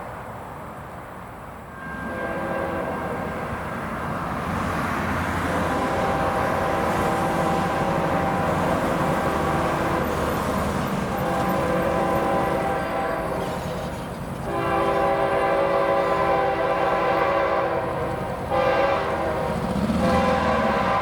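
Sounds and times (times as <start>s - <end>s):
train rumbling past on rails: 0.0s - 21.0s.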